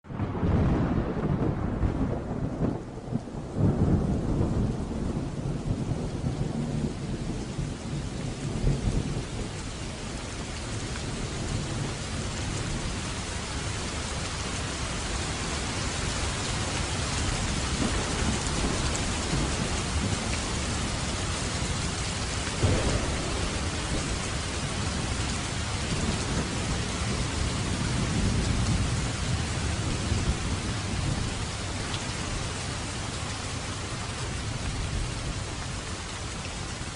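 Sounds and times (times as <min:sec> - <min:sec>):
steady rain falling: 0:00.0 - 0:36.9
low rolling thunder: 0:00.1 - 0:36.0.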